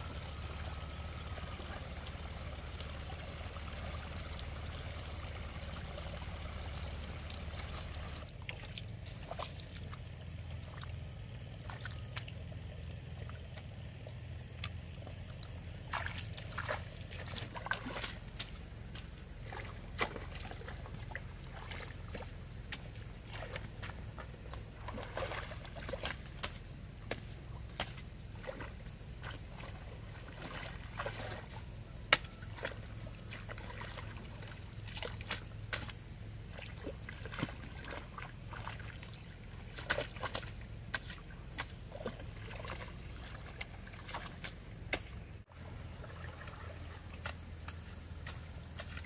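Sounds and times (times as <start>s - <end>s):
hoe slapping wet mud: 0.0s - 13.6s, 14.5s - 45.4s, 46.0s - 49.0s.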